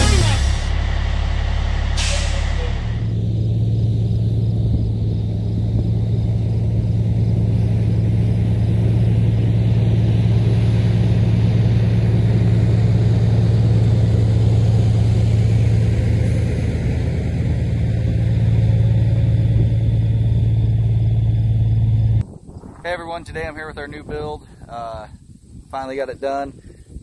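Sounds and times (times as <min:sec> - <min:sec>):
diesel truck engine idling: 0:00.0 - 0:22.2.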